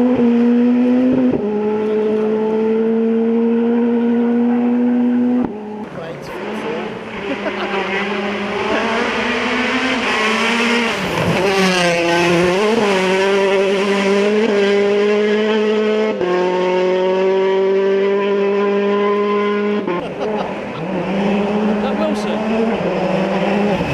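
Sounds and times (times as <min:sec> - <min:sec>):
rally car engine at high revs: 0:00.0 - 0:23.9.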